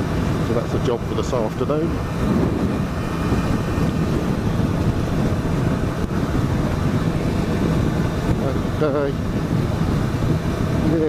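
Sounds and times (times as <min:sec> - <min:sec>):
motorcycle engine cruising: 0:00.0 - 0:11.0
wind rush over microphone: 0:00.0 - 0:11.0.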